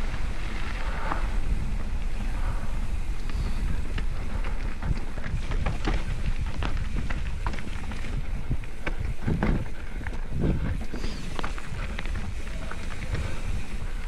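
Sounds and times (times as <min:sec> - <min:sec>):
bike clicks and rattles: 0:00.0 - 0:14.0
wind rumbling on microphone: 0:00.0 - 0:14.0.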